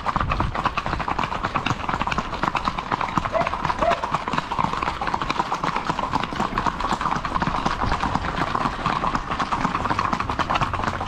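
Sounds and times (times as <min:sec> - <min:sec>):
horses' hooves clip-clopping: 0:00.0 - 0:11.0.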